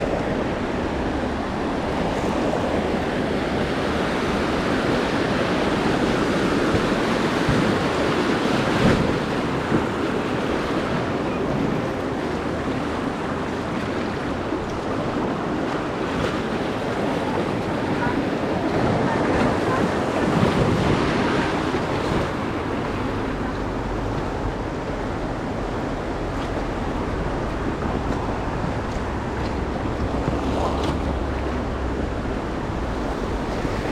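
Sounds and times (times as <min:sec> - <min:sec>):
river rapids rushing: 0:00.0 - 0:33.9.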